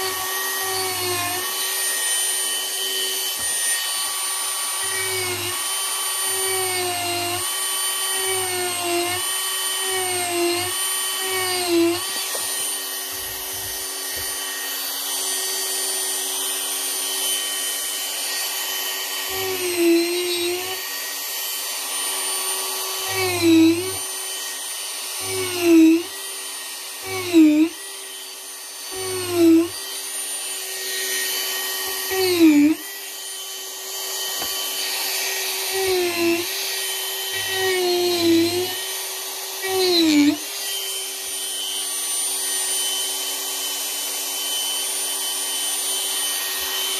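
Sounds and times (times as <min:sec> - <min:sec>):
rotary tool grinding wood: 0:00.0 - 0:46.9.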